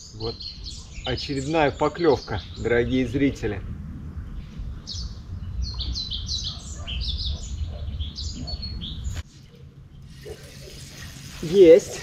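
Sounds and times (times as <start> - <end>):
songbird chirping: 0.0 - 10.1
steady low rumble: 0.3 - 10.1.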